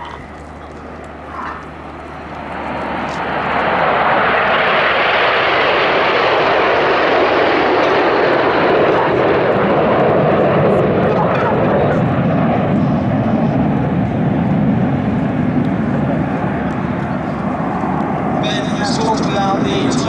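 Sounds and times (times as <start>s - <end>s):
jets flying past roaring: 0.0s - 20.0s.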